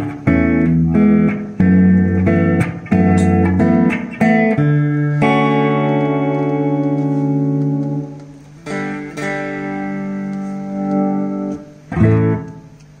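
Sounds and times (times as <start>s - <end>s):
guitar chords with echo: 0.0s - 13.0s.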